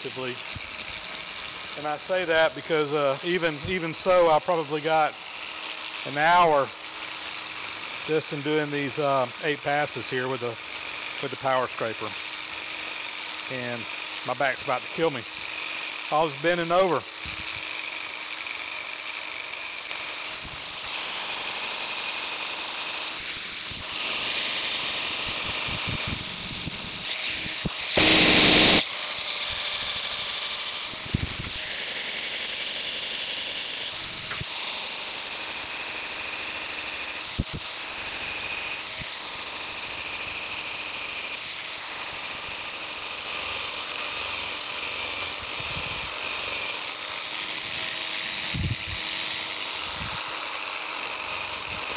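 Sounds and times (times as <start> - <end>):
power scraper scraping metal: 0.0 - 51.9.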